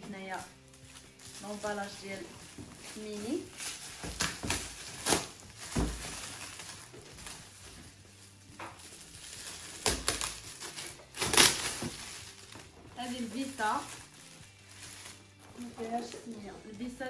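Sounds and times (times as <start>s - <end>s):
wrapping paper tearing and crumpling: 0.0s - 17.0s.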